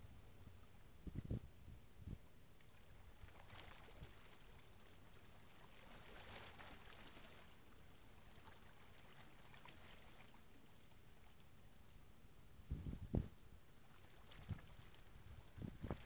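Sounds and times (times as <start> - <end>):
water crackle: 2.1 - 16.0.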